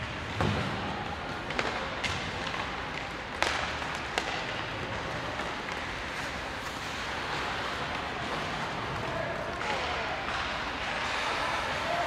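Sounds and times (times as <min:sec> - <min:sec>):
ice rink ambience: 0:00.0 - 0:12.0.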